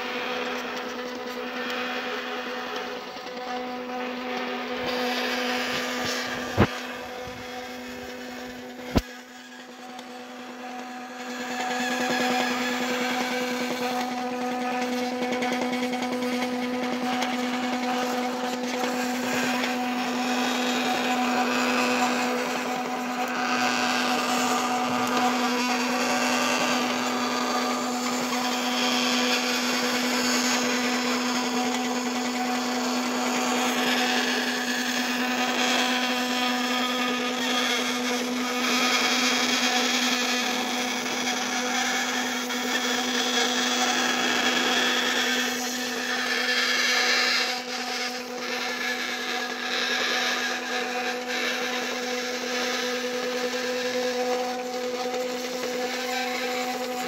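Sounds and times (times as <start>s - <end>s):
small electric motor humming: 0.0s - 57.0s.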